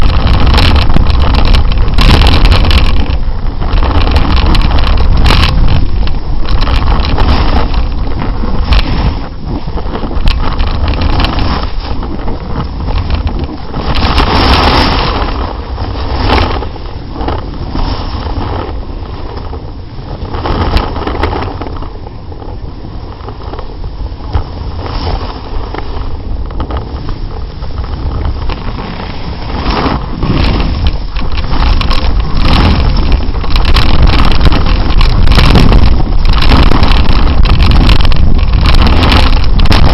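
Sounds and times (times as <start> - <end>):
snowboard edge scraping snow: 0.0 - 9.8, 10.5 - 19.4, 24.3 - 26.4, 27.0 - 39.9
wind buffeting microphone: 0.0 - 39.9.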